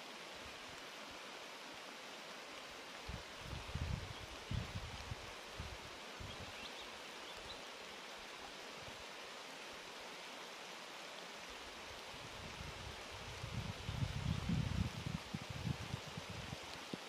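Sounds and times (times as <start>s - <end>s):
steady rain on leaves: 0.0s - 17.0s.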